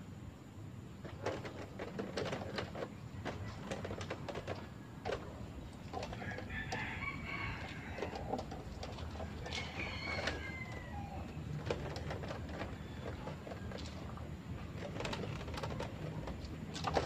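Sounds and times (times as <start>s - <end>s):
birds clucking and chirping: 3.0s - 17.0s.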